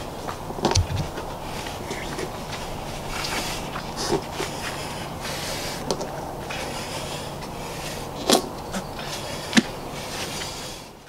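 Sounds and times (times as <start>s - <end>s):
rubbing and rustling of tire: 0.0s - 11.0s.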